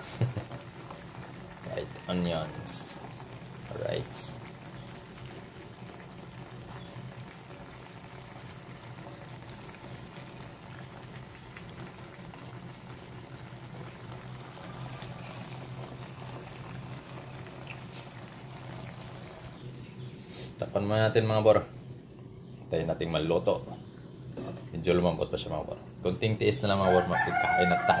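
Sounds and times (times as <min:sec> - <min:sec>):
sauce bubbling in a frying pan: 0:00.0 - 0:28.0.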